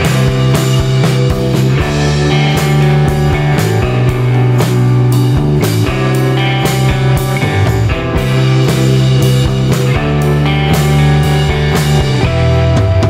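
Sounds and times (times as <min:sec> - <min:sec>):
rock music with steady beat: 0:00.0 - 0:13.0.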